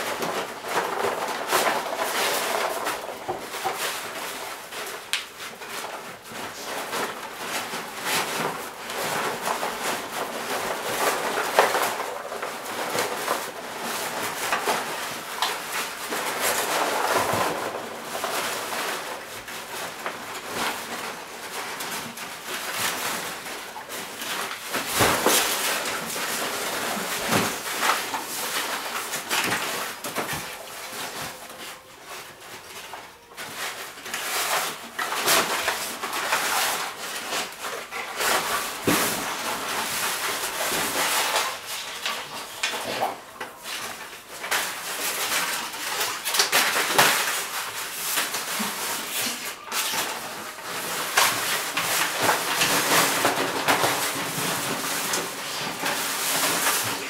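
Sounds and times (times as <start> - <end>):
dog tearing packing paper: 0.0 - 57.0.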